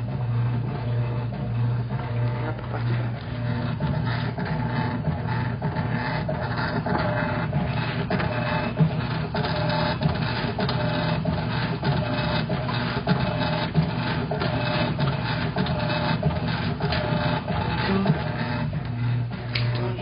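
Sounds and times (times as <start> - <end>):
washing machine whine: 0.0 - 20.0.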